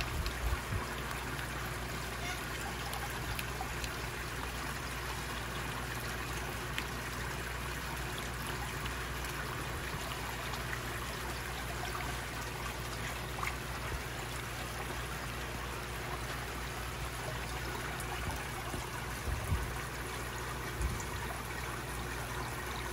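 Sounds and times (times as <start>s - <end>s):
trickle of running water: 0.0s - 22.9s.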